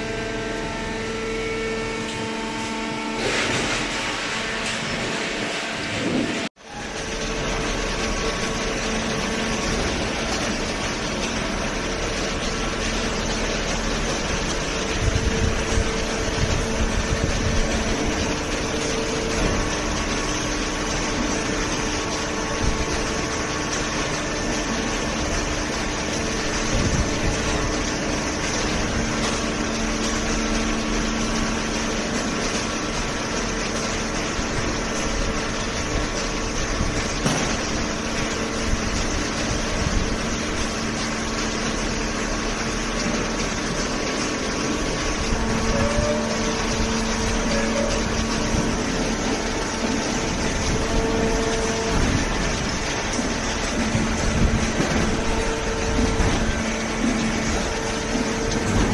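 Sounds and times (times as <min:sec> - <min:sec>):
electric pump motor humming: 0:00.0 - 0:58.9.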